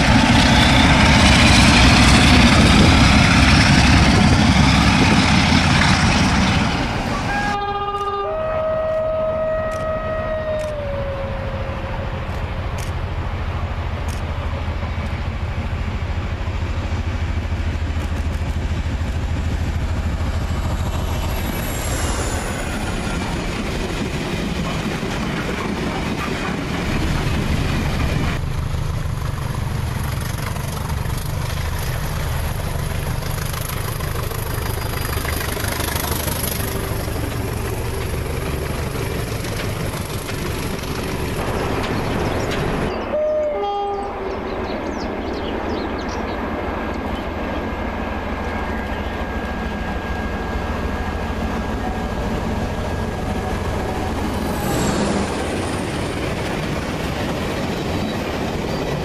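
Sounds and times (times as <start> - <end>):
diesel locomotive engine drone: 0.0 - 59.0
loud rushing of passing train: 0.0 - 59.0.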